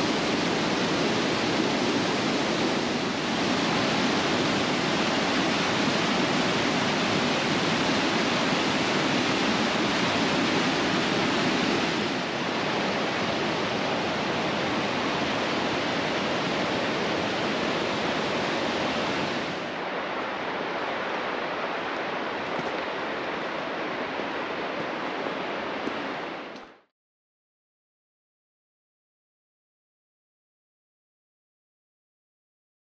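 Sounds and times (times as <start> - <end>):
whitewater rushing over boulders: 0.0 - 26.9.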